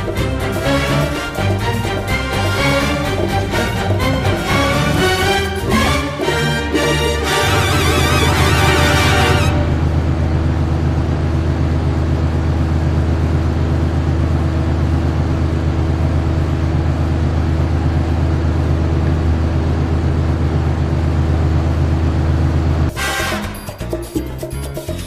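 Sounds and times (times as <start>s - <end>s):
loud steady low hum: 0.0s - 22.9s.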